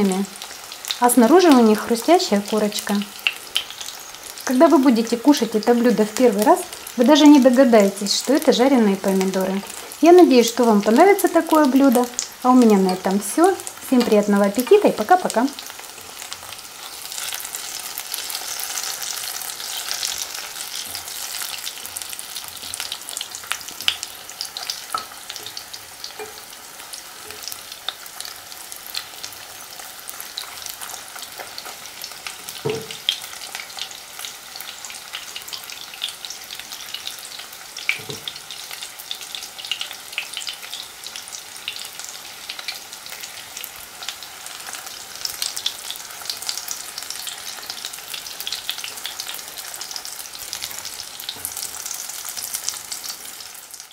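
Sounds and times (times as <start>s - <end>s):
tomato slices sizzling in oil: 0.0s - 53.9s.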